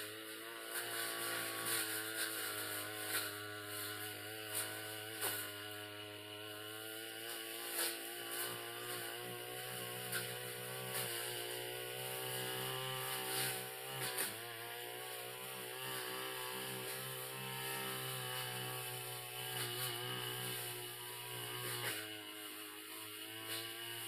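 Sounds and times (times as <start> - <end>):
blade swishing through grass: 0.0 - 15.3, 15.9 - 24.0
brush cutter engine running: 0.0 - 24.0.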